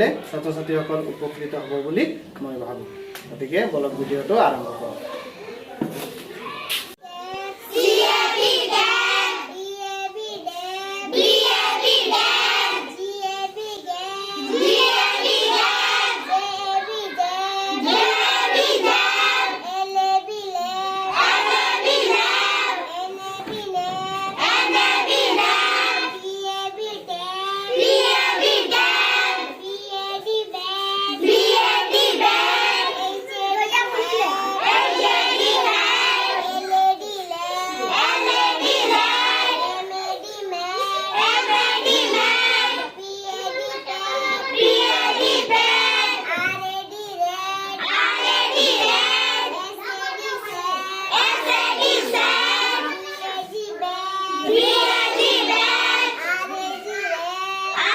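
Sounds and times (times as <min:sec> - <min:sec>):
children chanting in chorus: 0:06.5 - 0:57.9.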